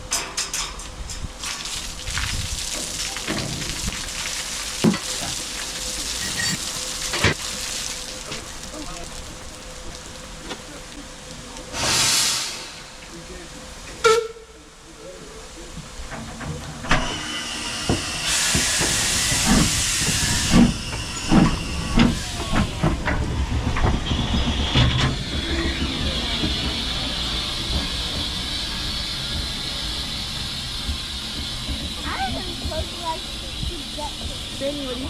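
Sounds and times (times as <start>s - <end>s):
steam hissing: 1.2s - 35.0s
steam locomotive chuffing: 3.0s - 35.0s.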